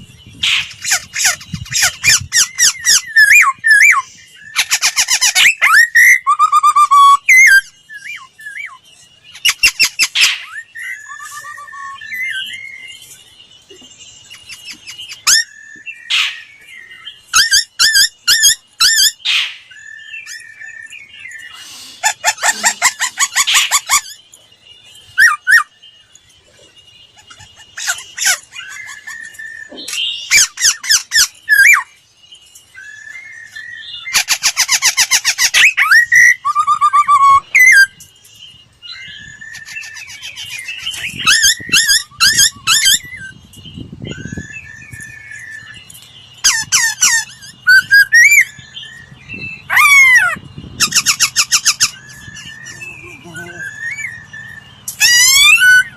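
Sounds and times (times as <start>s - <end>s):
bird singing whistled trills: 0.0s - 55.9s.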